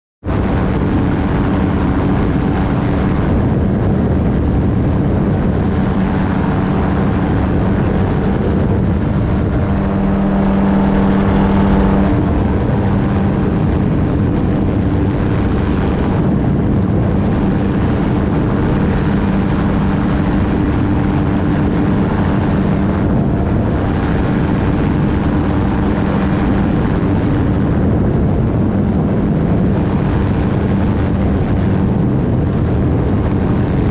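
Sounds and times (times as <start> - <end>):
aircraft engine and propeller drone: 0.2 - 33.9
wind rush: 0.3 - 33.9.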